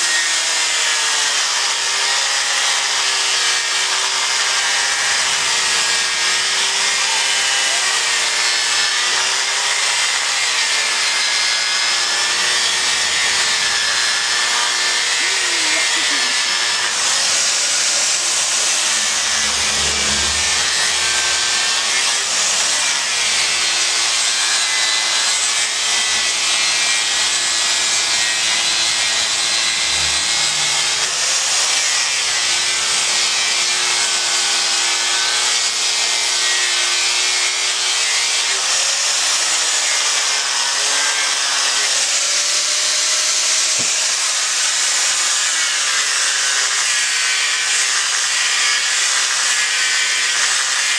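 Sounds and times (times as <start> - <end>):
angle grinder grinding wood: 0.0 - 50.9.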